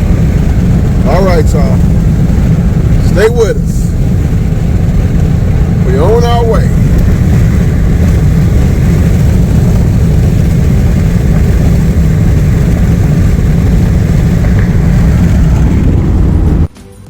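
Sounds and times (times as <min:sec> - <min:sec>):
car road and wind noise: 0:00.0 - 0:16.7.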